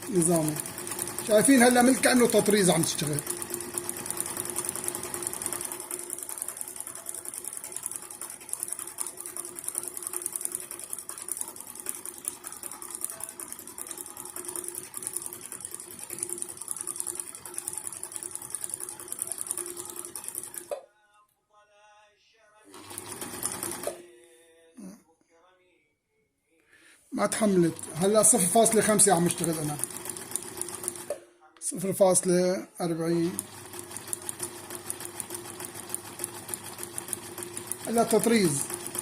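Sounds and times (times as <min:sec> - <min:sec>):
sewing machine running: 0:00.0 - 0:20.7, 0:22.7 - 0:24.0, 0:27.3 - 0:31.2, 0:32.9 - 0:39.0.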